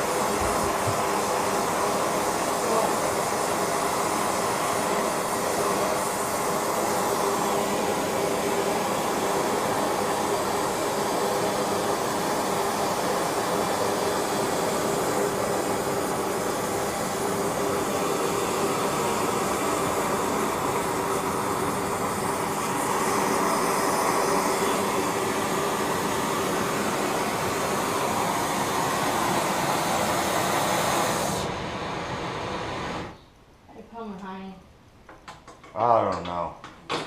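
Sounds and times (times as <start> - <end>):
gas burner rushing: 0.0 - 33.2.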